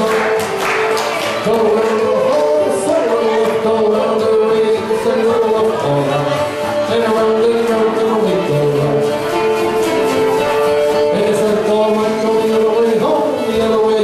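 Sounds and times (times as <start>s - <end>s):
fiddle melody: 0.0s - 14.0s
string band playing dance tune: 0.0s - 14.0s.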